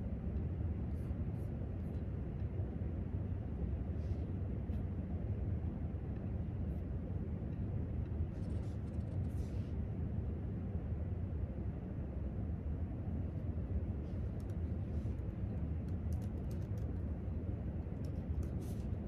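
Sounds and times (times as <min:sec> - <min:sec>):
low room tone rumble: 0:00.0 - 0:19.0.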